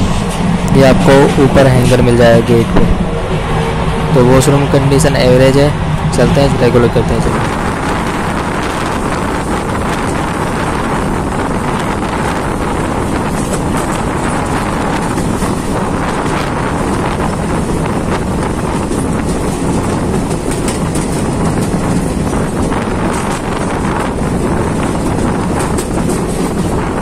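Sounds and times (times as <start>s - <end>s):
faint train clatter: 0.0s - 27.0s
train wheels rumbling on rails: 0.0s - 27.0s.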